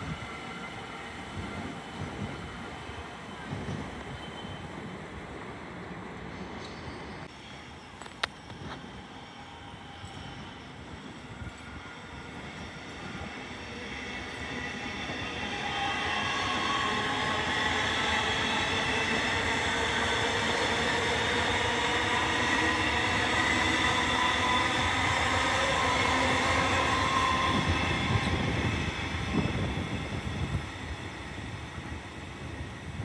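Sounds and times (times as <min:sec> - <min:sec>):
electric train rumbling past: 0:00.0 - 0:33.0.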